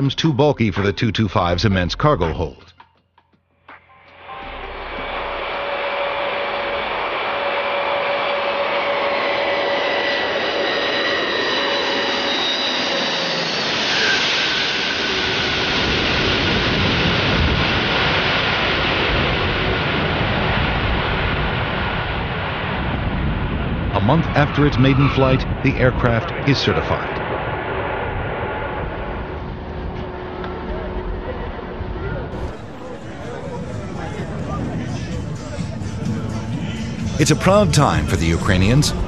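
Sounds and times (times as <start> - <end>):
jet engines whining: 4.1 - 39.0
jet engine rushing rumble: 4.4 - 30.4, 32.2 - 39.0.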